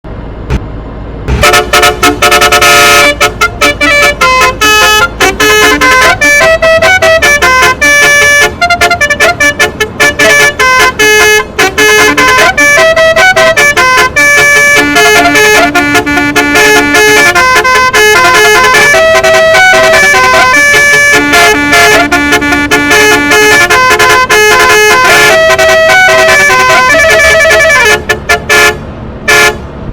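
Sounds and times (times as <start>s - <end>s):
fast tune of horn-like notes: 1.3s - 29.6s.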